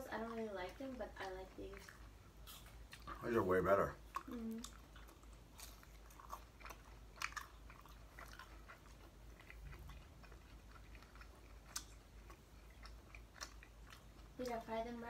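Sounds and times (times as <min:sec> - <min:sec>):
chewing crispy food: 0:00.0 - 0:15.0.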